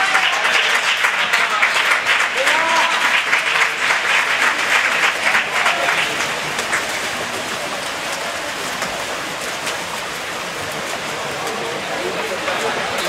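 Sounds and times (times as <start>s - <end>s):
spectators applauding: 0.0s - 13.0s
steady background noise: 0.0s - 13.0s.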